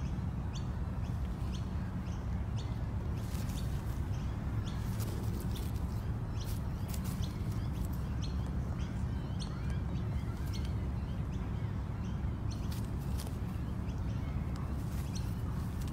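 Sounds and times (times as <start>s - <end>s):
birds chirping: 0.0s - 15.9s
steady low rumble: 0.0s - 15.9s.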